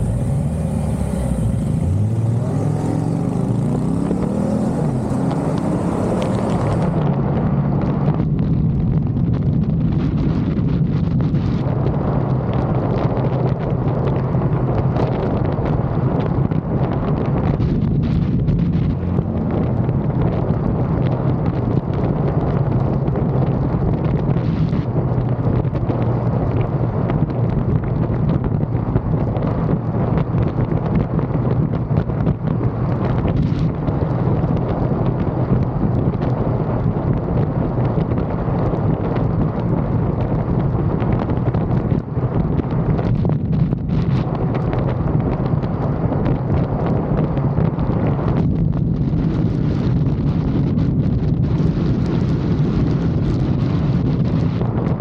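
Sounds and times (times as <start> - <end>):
motorcycle engine and road drone: 0.0 - 55.0
wind buffeting microphone: 0.0 - 55.0.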